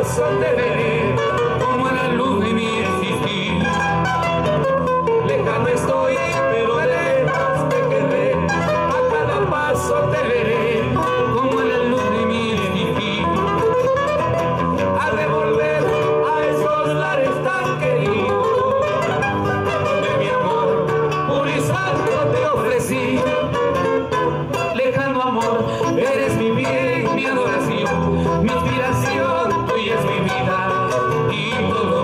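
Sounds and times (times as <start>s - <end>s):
acoustic guitars: 0.0s - 32.0s
man singing: 0.0s - 32.0s.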